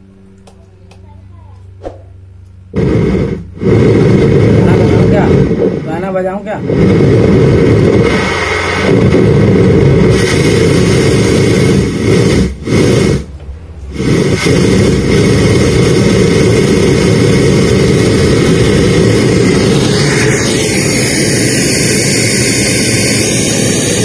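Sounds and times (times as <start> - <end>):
distorted rumbling from speaker: 0.0 - 24.0.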